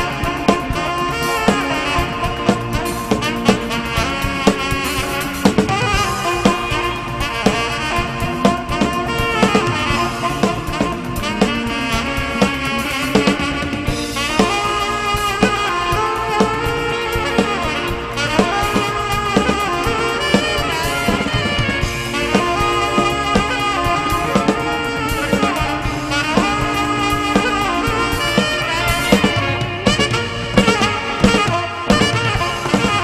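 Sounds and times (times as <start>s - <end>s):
bass guitar: 0.0s - 33.0s
drum kit: 0.0s - 33.0s
saxophone melody: 0.0s - 33.0s.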